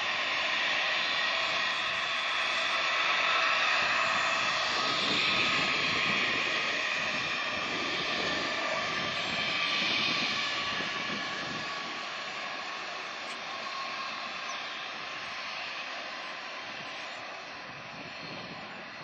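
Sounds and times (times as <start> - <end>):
jet airliner passing: 0.0 - 19.0.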